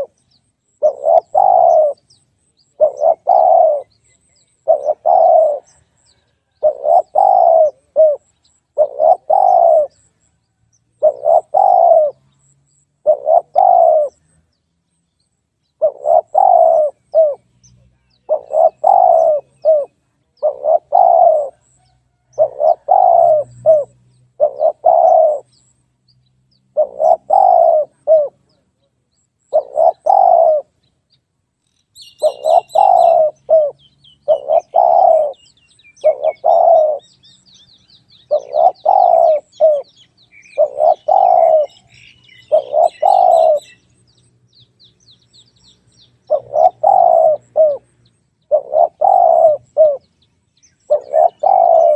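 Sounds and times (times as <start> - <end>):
dove cooing: 0.0 - 0.2, 0.8 - 10.2, 11.0 - 14.4, 15.8 - 17.6, 18.2 - 25.6, 26.7 - 28.7, 29.5 - 30.7, 32.0 - 43.8, 46.2 - 50.1, 50.9 - 51.9
small birds chirping: 0.0 - 51.9.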